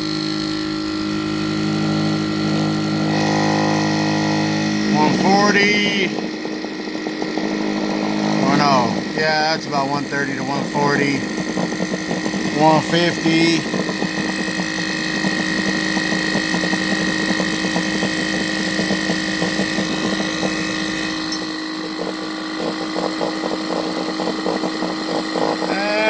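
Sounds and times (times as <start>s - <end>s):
air compressor running: 0.0s - 26.0s
rapid rattling ticking: 4.4s - 25.9s.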